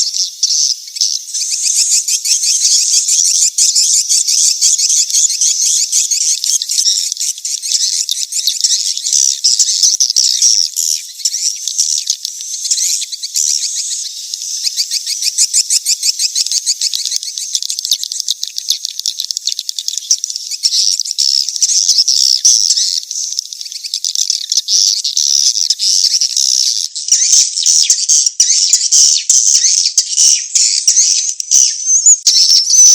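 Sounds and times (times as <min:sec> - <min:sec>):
high twittering bird call: 0:00.0 - 0:32.9.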